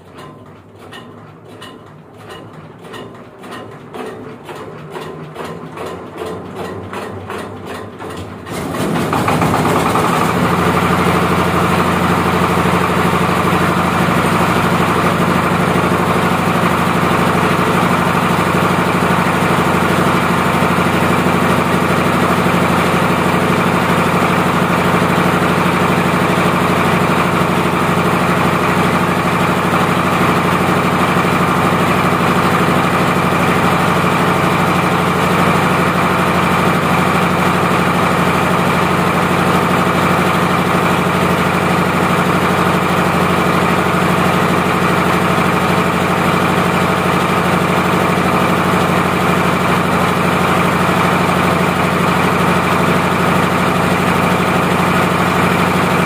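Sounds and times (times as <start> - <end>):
diesel engine hand-cranked and running: 0.0 - 56.0.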